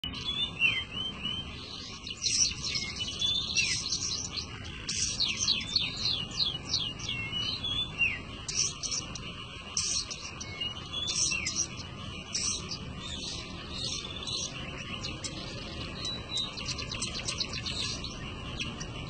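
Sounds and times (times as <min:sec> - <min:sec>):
bird singing chattering whistles: 0:00.0 - 0:18.9.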